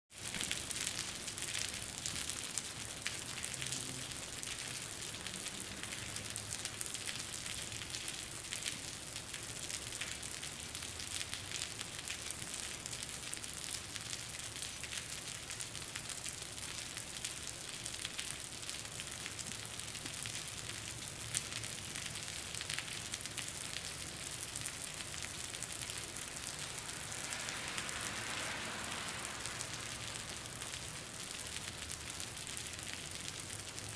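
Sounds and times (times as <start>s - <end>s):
rain splattering on concrete: 0.1s - 33.9s.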